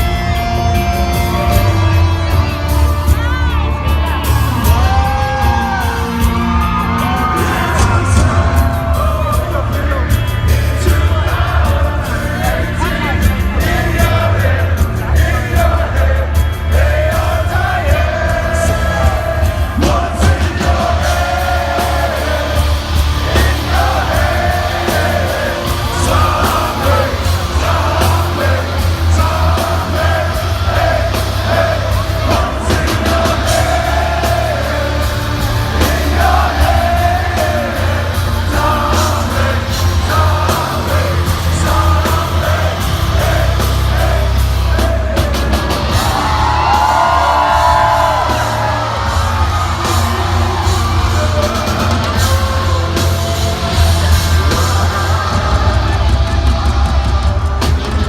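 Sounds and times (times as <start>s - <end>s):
heavy metal band playing: 0.0s - 58.0s
person singing: 0.0s - 58.0s.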